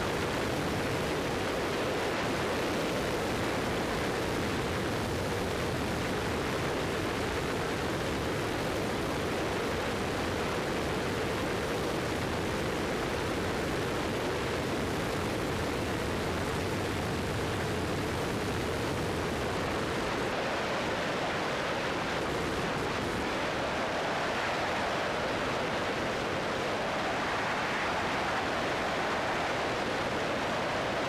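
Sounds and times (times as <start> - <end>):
propeller plane engine drone: 0.0 - 31.0.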